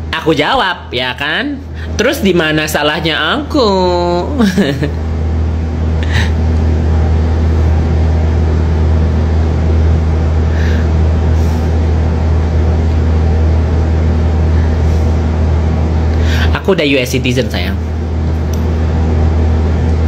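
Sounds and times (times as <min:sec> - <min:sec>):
loud steady low hum: 0:00.0 - 0:20.0.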